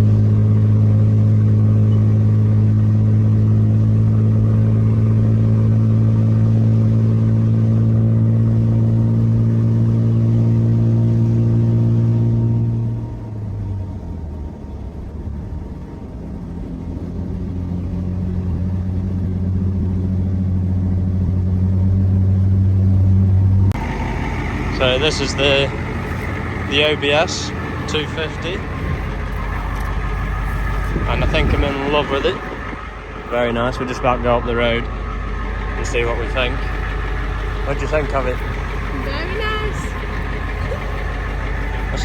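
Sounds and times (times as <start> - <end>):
vehicle engine droning: 0.0 - 42.0.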